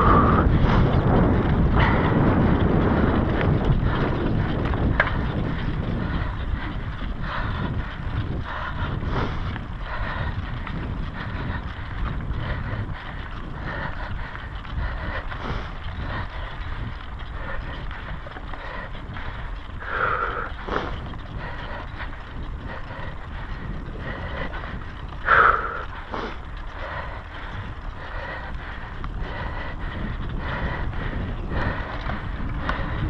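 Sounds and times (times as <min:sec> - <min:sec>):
bike rattles and ticks: 0:00.0 - 0:33.0
wind buffeting microphone: 0:00.0 - 0:33.0.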